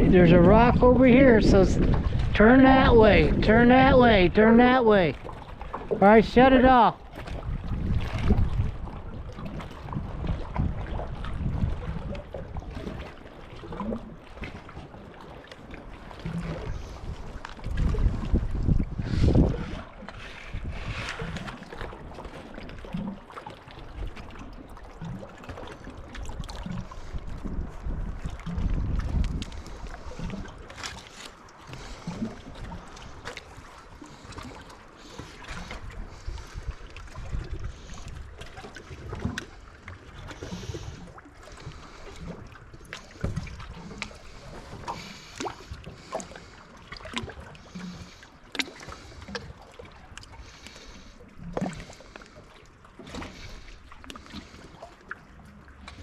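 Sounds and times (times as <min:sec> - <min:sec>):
water lapping against hull: 0:00.0 - 0:56.0.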